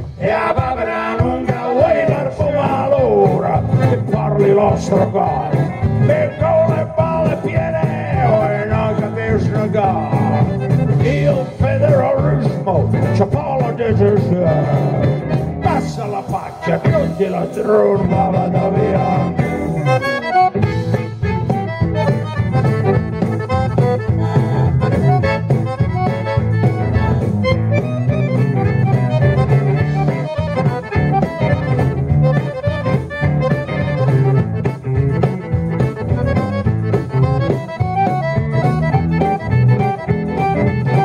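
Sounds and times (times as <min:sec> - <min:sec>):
live band playing: 0:00.0 - 0:41.0
piano accordion: 0:01.4 - 0:41.0.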